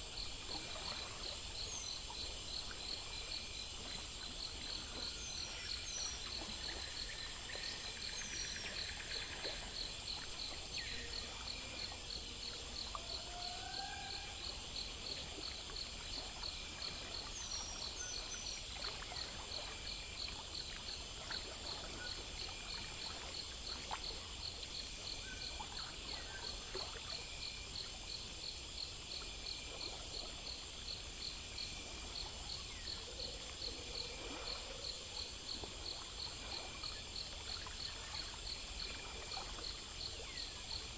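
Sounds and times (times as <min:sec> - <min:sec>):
crickets chirping: 0:00.0 - 0:40.9
insects trilling: 0:00.0 - 0:40.9.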